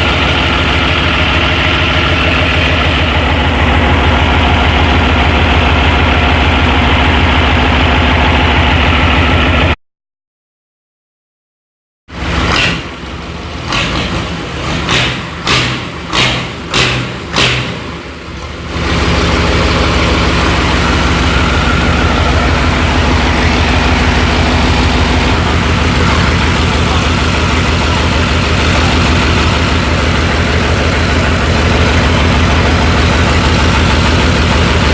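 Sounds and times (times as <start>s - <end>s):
bulldozer engine starting: 0.0s - 9.8s, 12.2s - 34.9s.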